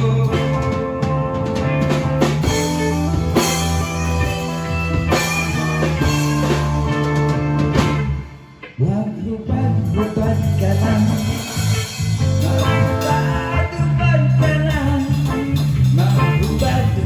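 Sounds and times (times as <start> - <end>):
live band music with bass: 0.0 - 17.0.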